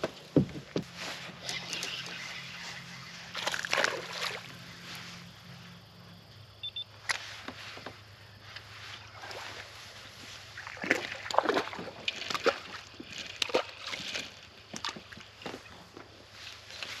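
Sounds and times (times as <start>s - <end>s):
water splashing and sloshing: 0.0s - 5.3s, 7.1s - 17.0s.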